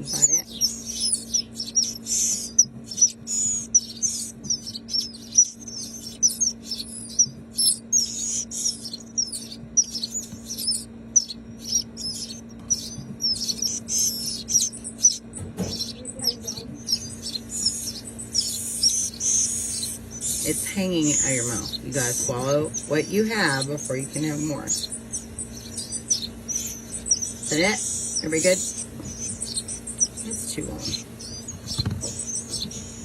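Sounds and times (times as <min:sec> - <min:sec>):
nestling birds begging chirps: 0:00.0 - 0:33.0
steady low hum: 0:00.0 - 0:33.0.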